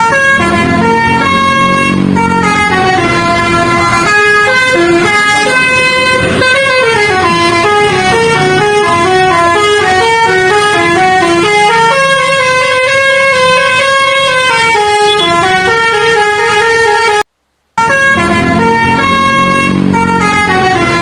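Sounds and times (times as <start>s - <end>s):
bus air horn playing a melody: 0.0s - 21.0s.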